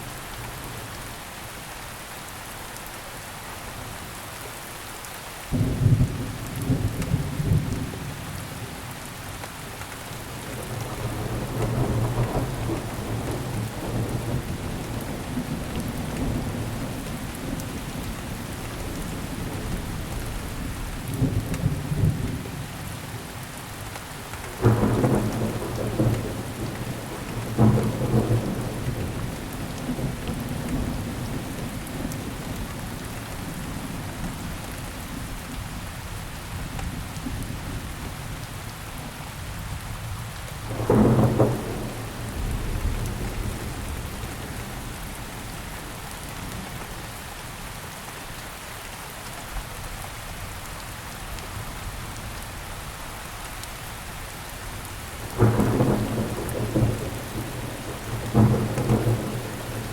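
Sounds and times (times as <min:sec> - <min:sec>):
rain hissing on surfaces: 0:00.0 - 0:59.9.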